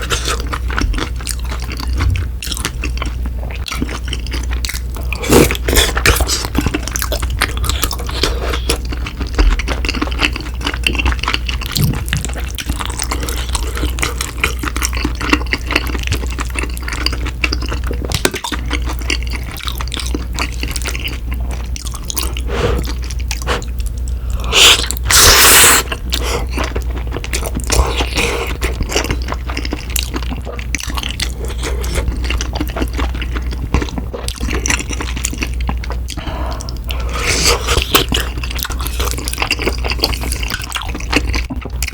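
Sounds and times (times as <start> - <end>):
wet chewing: 0.0 - 41.9.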